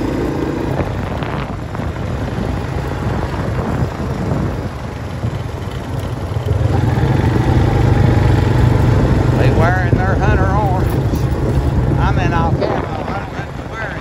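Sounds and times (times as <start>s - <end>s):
tyres rumbling on gravel: 0.0s - 14.0s
vehicle engine hum: 0.0s - 14.0s.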